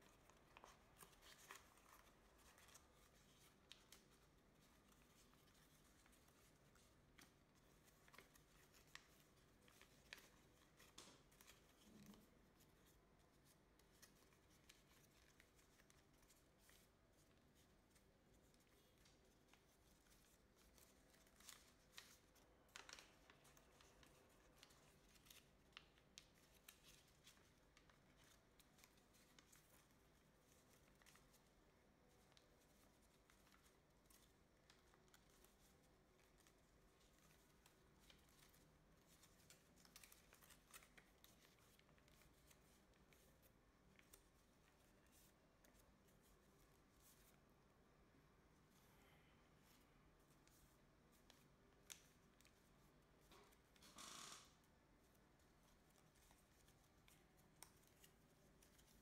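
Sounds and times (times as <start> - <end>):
paper crinkling while folded: 0.0 - 59.0.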